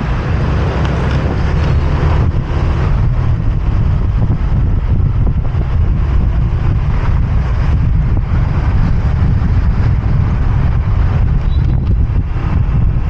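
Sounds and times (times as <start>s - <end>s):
motorbike engine: 0.0s - 13.0s
road noise: 0.0s - 13.0s
wind buffeting microphone: 0.0s - 13.0s.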